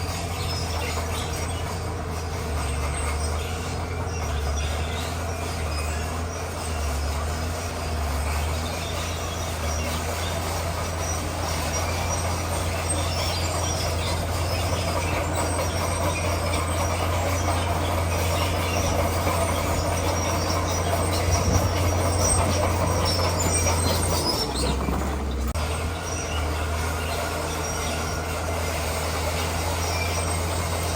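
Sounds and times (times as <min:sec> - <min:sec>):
bulldozer diesel engine: 0:00.0 - 0:30.9
steel tracks squealing: 0:00.0 - 0:30.9.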